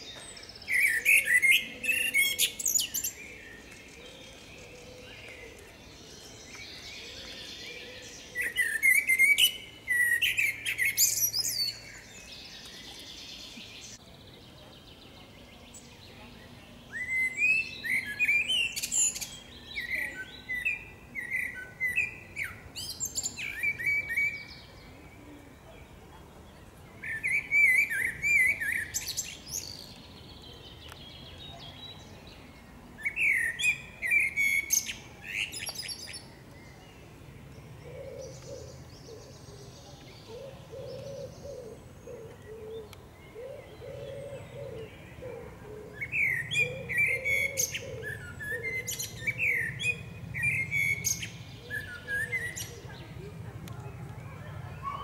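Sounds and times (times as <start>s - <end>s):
blackbird singing: 0.0s - 55.0s.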